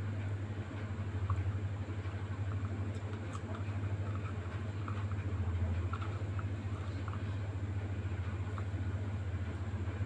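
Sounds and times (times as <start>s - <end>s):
pot simmering with faint ticks: 0.0s - 10.0s
steady low hum: 0.0s - 10.0s.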